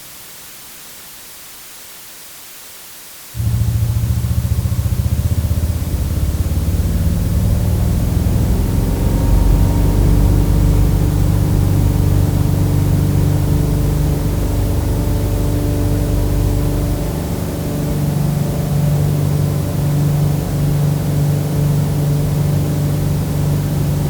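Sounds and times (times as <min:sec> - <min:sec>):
airplane engines running: 0:03.4 - 0:24.0.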